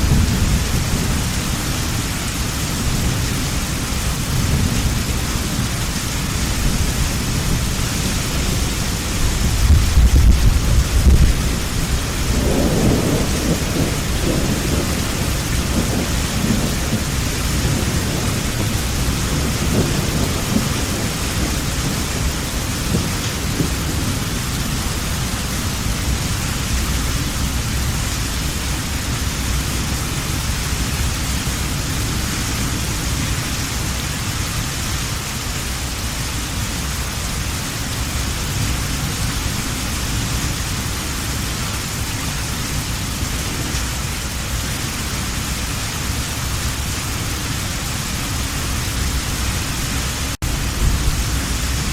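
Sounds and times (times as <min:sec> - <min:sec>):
low thunder rumble: 0:00.0 - 0:34.1, 0:37.9 - 0:51.9
heavy rain hissing: 0:00.0 - 0:51.9.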